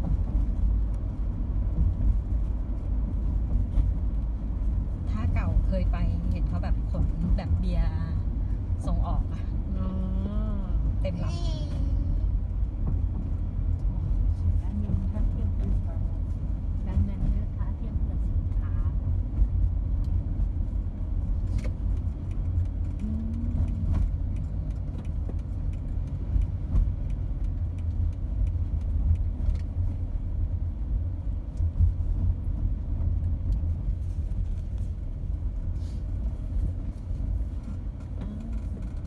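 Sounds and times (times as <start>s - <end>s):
car driving slowly: 0.0s - 39.0s.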